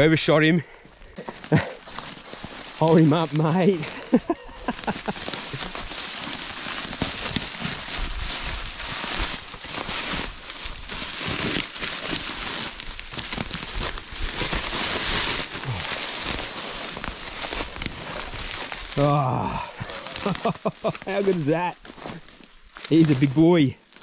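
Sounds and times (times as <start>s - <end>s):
footsteps crunching through dry grass: 0.8s - 24.0s
brush and clothing rustling: 1.2s - 24.0s.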